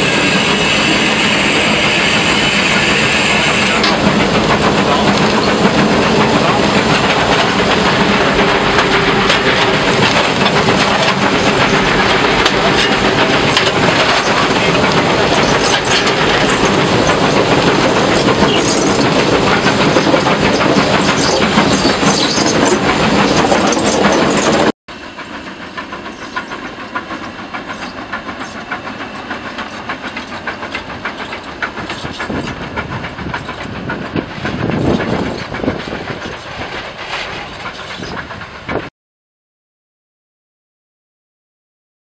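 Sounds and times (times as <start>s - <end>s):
steam locomotive clatter: 0.0s - 38.9s
train wheel noise: 0.0s - 38.9s.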